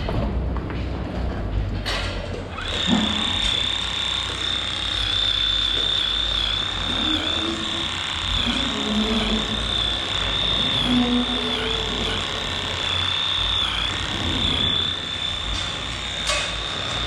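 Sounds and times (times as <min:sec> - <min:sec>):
electric clippers whining: 0:02.4 - 0:17.0.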